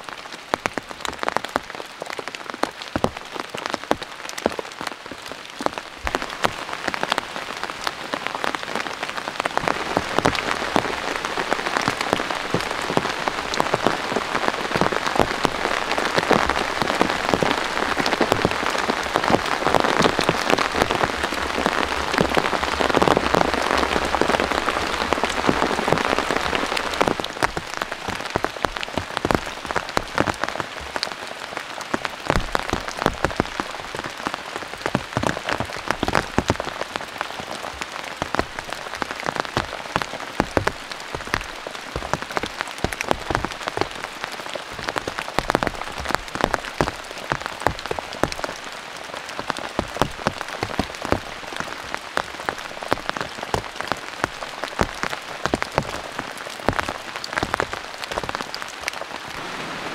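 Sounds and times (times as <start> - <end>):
rain on a plastic tarp: 0.0 - 59.9.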